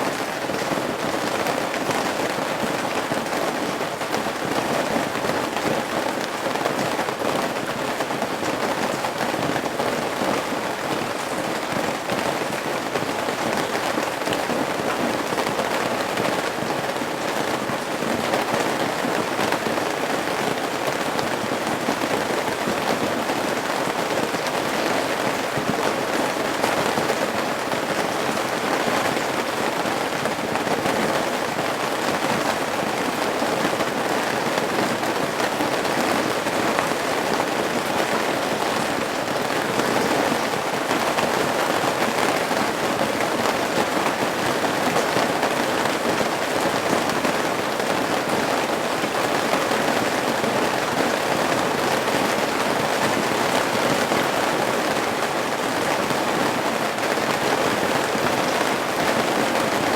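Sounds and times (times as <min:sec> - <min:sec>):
rain falling at roof eaves: 0:00.0 - 0:59.9.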